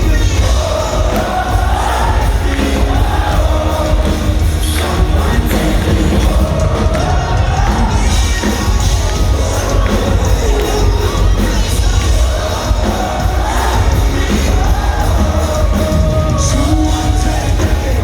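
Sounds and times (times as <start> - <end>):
crowd cheering: 0.0 - 18.0
live rock band playing: 0.0 - 18.0
person singing: 0.0 - 18.0.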